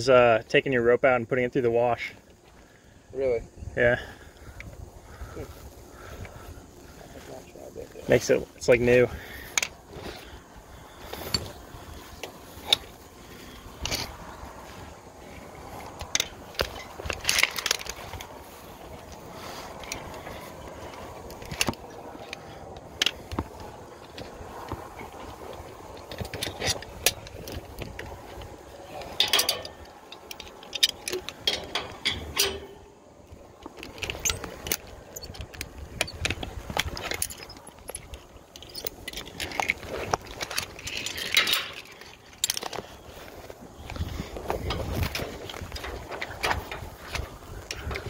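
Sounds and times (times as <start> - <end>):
metal climbing gear clinking: 8.0 - 48.0.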